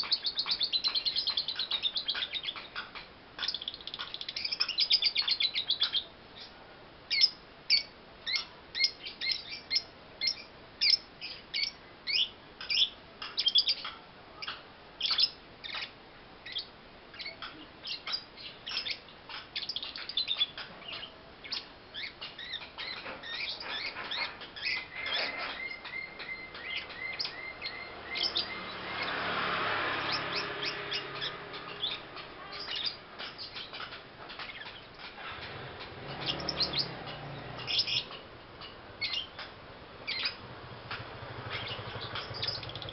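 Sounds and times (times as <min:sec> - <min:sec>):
lovebird chirping: 0:00.0 - 0:42.9.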